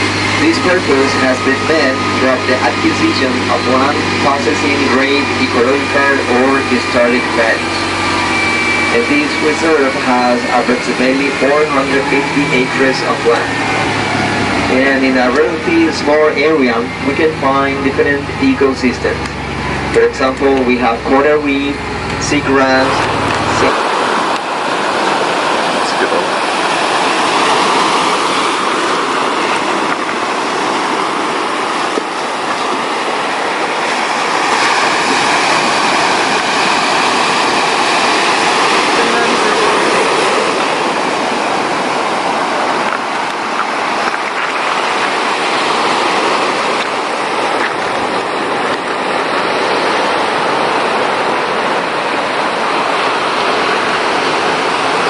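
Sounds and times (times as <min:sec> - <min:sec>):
rush of moving water: 0:00.0 - 0:55.0.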